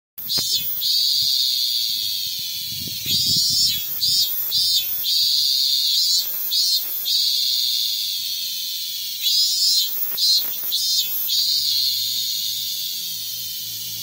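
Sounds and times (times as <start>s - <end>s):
cicada drone: 0.2s - 14.0s
cicada rapid pulsed notes: 0.2s - 14.0s.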